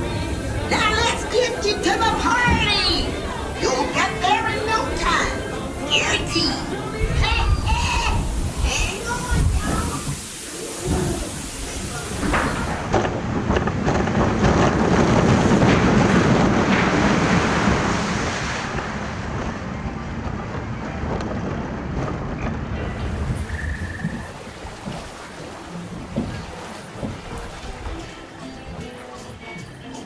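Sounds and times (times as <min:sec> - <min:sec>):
log flume boat splashing down: 0:00.0 - 0:29.9
water washing: 0:00.0 - 0:30.0.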